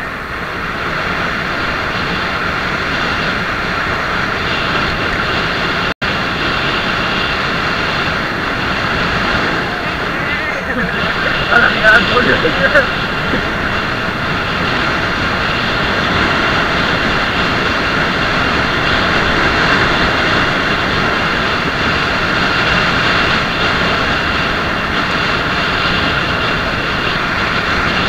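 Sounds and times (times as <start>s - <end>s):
wind rush over microphone: 0.0s - 28.0s.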